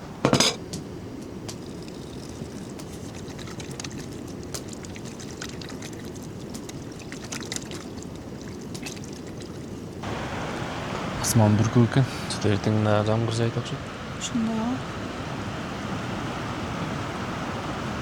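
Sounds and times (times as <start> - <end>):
water rushing: 1.3 - 18.0.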